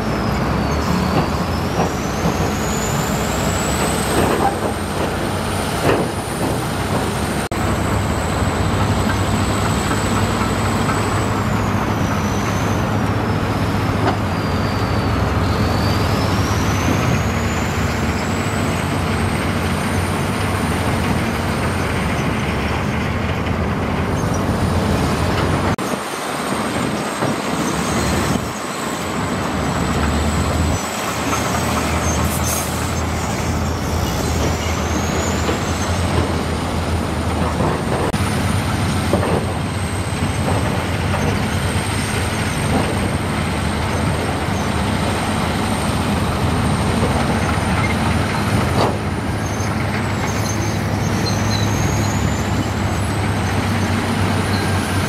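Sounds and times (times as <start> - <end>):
diesel engine hum: 0.0 - 55.0.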